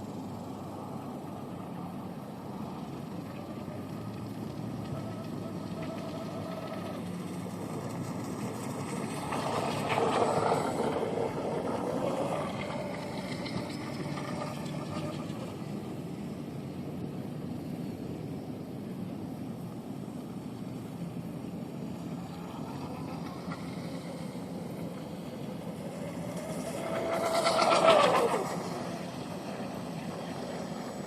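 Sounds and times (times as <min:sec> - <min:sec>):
electric rc boat passing: 0:00.0 - 0:31.0.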